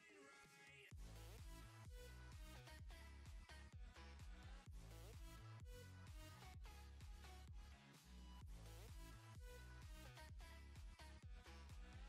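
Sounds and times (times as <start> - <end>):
faint music with bass and beat: 1.0 - 12.0.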